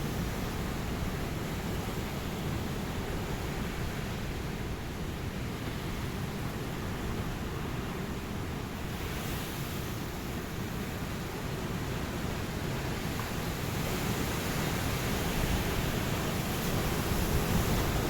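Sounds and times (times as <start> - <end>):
ocean waves washing on beach: 0.1 - 18.0.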